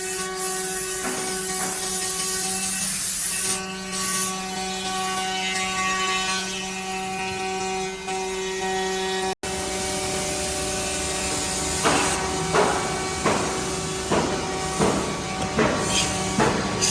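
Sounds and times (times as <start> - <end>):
drilling machine humming: 0.1 - 16.9.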